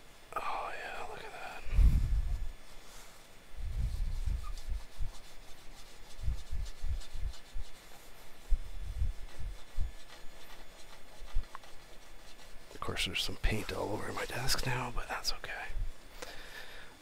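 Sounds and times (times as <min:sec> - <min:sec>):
hand rubbing paint off glass: 0:02.2 - 0:16.0.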